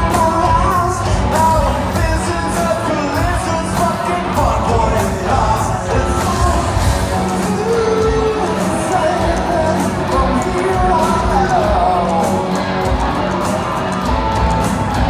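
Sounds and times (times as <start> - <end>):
man singing lead: 0.0 - 15.0
rock band playing live: 0.0 - 15.0.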